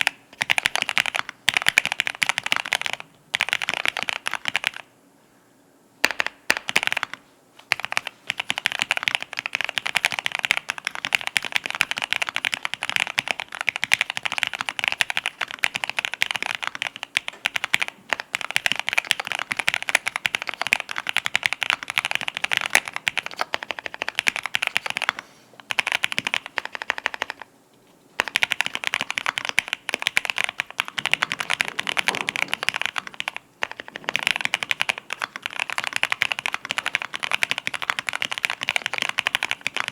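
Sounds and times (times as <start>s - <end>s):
typing on mechanical keyboard: 0.0s - 4.9s, 6.1s - 27.5s, 28.2s - 39.9s.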